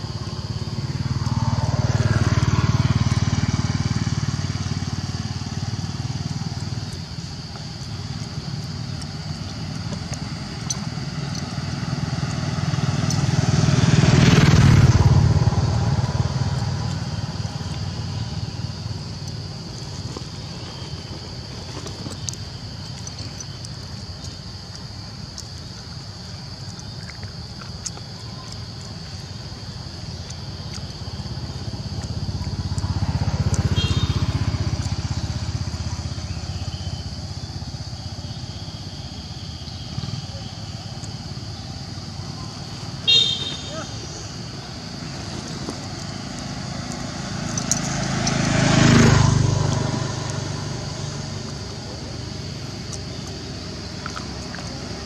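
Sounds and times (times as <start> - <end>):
motorbike passing: 0.0 - 55.0.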